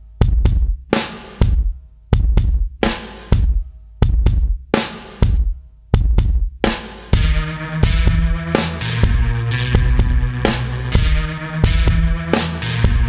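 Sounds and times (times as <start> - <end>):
deep drum beat: 0.0 - 13.0.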